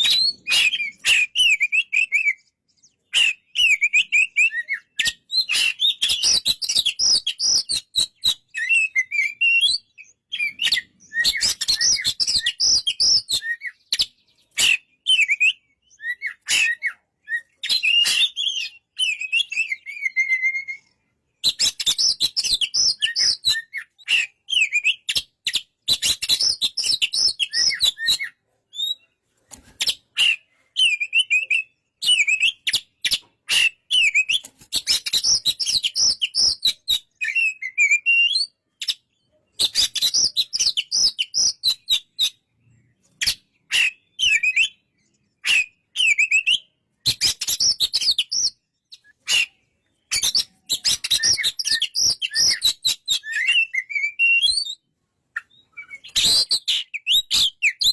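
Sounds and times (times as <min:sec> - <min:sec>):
bird singing varied phrases: 0:00.0 - 0:57.9.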